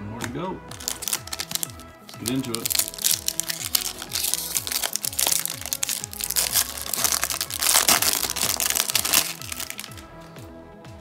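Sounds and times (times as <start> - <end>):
background music with bass: 0.0 - 11.0
foil wrapper crinkling and tearing: 0.7 - 10.1.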